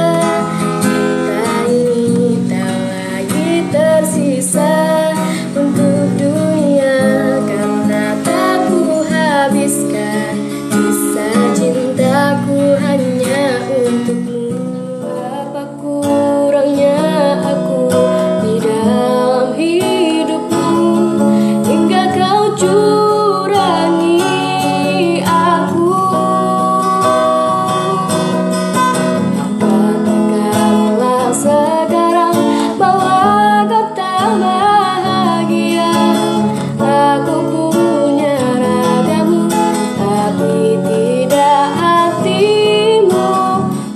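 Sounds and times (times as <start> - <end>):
acoustic guitar: 0.0 - 43.9
woman singing: 0.0 - 43.9.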